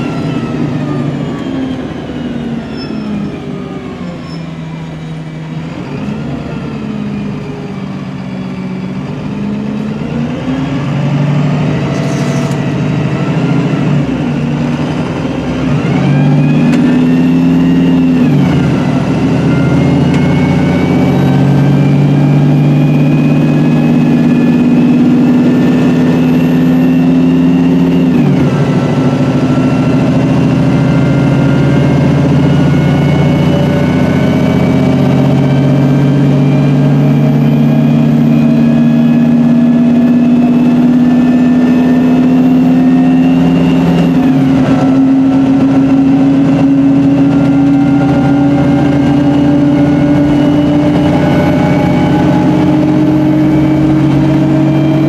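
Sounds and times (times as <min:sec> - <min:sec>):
bus diesel engine pulling hard: 0:00.0 - 0:55.0.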